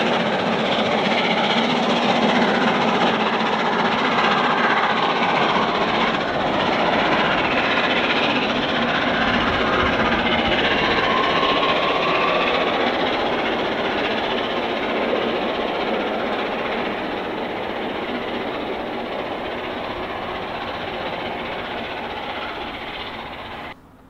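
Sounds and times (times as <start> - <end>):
steam train rushing on rails: 0.0 - 24.0.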